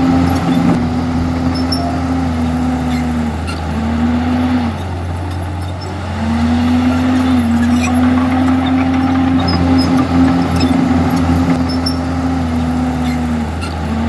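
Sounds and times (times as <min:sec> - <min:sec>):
bulldozer diesel engine under load: 0:00.0 - 0:14.0.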